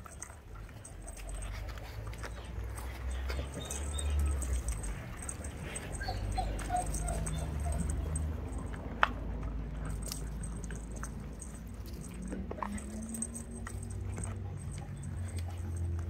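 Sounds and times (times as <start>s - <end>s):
puppies squeaking and whimpering: 0.0s - 8.9s, 9.8s - 16.0s.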